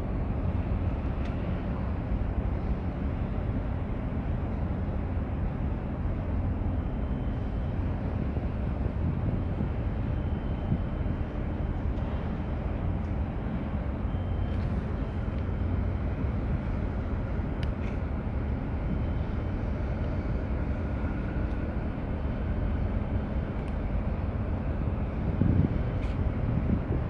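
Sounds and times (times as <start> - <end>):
harbour low rumble: 0.0 - 27.0.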